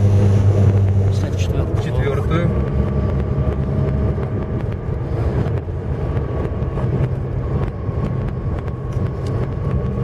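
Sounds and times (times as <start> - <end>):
car engine running: 0.0 - 10.0
road noise inside car: 0.0 - 10.0.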